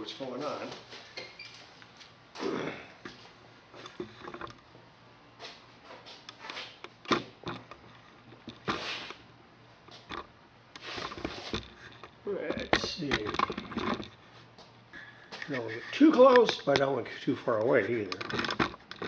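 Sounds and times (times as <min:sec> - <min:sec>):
rustling and knocks of handling: 0:03.1 - 0:19.0.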